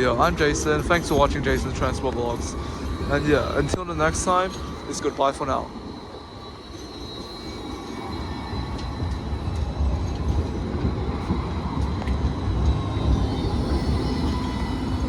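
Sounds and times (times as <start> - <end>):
high whine: 0.0 - 15.0
tram rumbling: 0.0 - 15.0.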